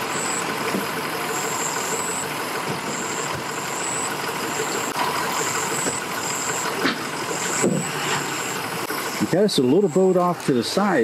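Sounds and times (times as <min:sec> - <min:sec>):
engines idling: 0:00.0 - 0:11.0.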